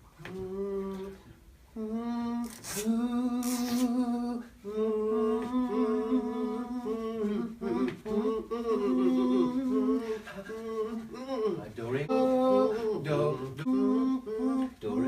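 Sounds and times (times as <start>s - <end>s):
person humming: 0.2s - 15.0s.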